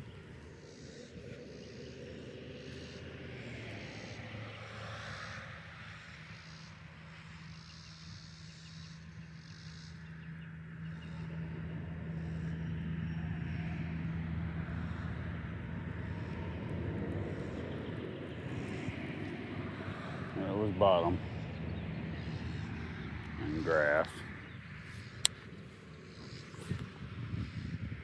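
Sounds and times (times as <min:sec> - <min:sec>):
distant motor drone: 0:00.0 - 0:28.0.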